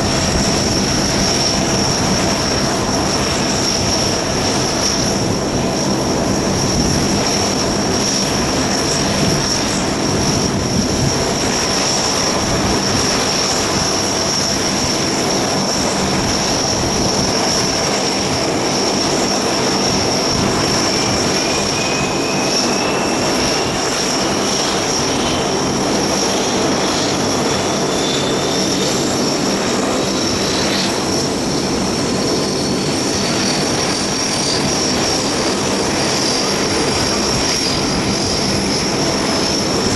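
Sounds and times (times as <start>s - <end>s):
high engine whine: 0.0s - 39.9s
turboprop engines running: 0.0s - 39.9s.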